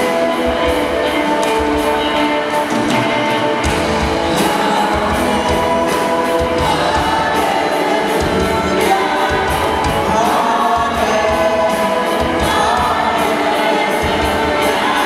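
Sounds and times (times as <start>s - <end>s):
choir singing gospel song: 0.0s - 15.0s
steady beat: 0.0s - 15.0s.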